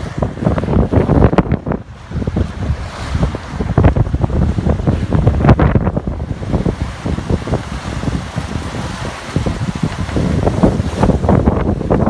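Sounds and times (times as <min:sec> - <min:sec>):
rushing waves: 0:00.0 - 0:12.0
wind buffeting microphone: 0:00.0 - 0:12.0.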